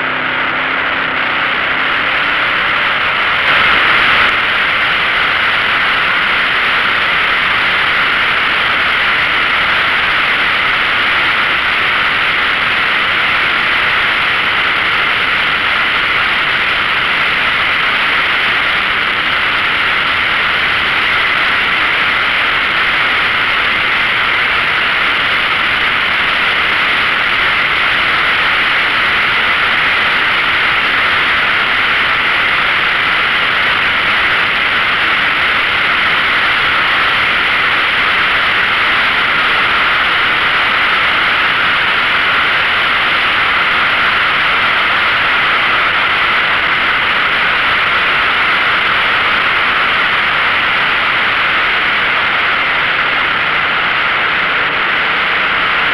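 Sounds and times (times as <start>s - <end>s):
motorcycle engine running: 0.0s - 55.9s
wind rushing over microphone: 1.5s - 55.9s.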